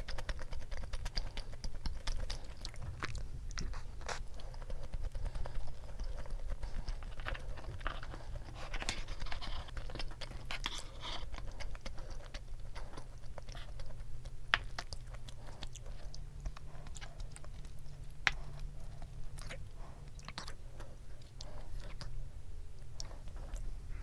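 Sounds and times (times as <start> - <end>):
close chewing: 0.0 - 24.0
steady low hum: 0.0 - 24.0.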